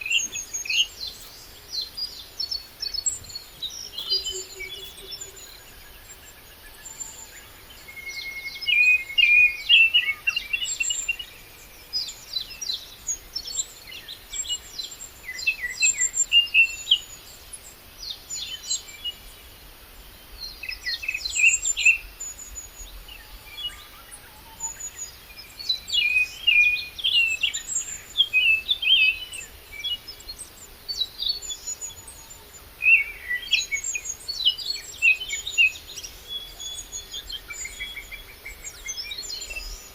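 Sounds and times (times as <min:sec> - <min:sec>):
birds chirping and singing: 0:00.0 - 0:19.4, 0:20.2 - 0:39.9
faint outdoor background: 0:00.0 - 0:39.9.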